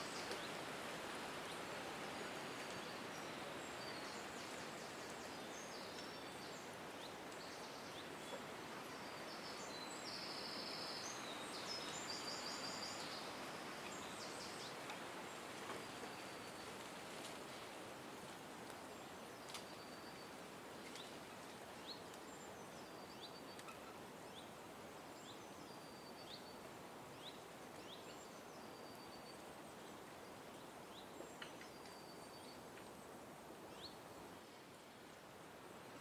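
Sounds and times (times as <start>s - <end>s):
background hiss: 0.0s - 36.0s.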